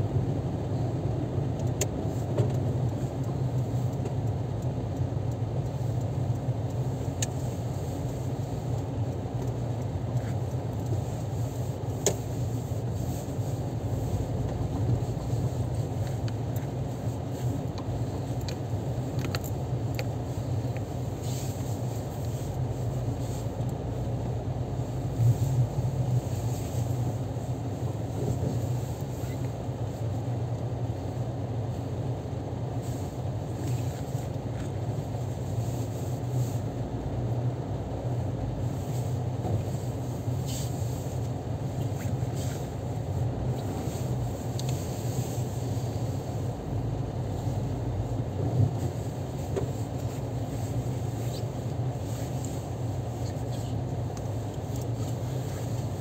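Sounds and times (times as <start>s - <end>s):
car engine and tyres hum: 0.0s - 56.0s.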